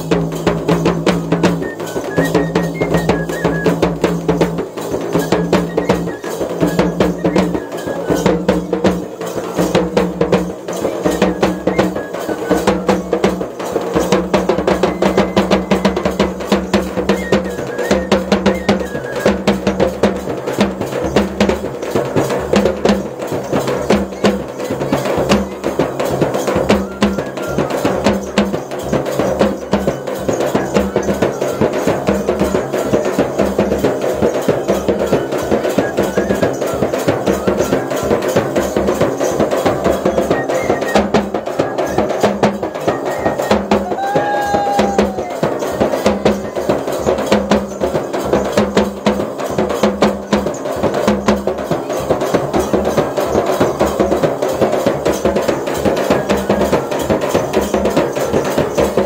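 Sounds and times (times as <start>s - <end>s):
fast dense drumming: 0.0s - 59.0s.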